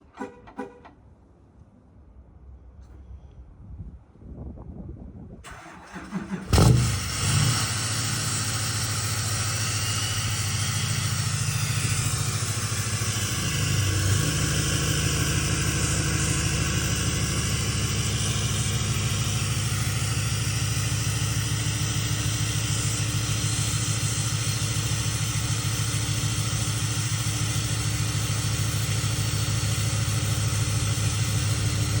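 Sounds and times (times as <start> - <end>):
diesel engine idling: 5.5 - 32.0.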